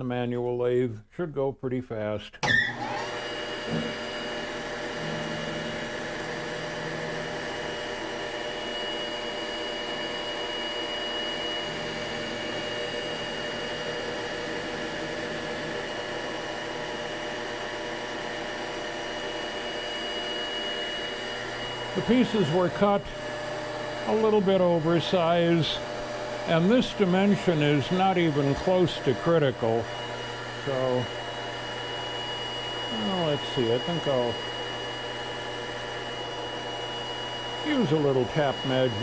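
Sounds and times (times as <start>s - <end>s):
metal lathe running with whine: 2.4s - 39.0s.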